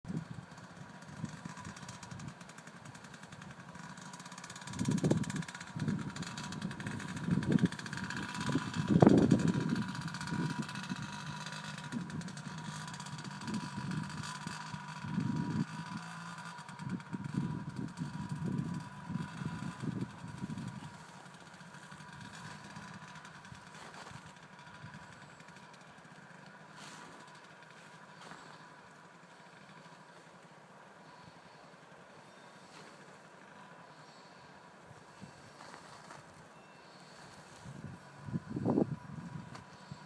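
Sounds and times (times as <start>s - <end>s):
dirt bike engine revving: 0.1s - 30.4s, 31.0s - 40.0s.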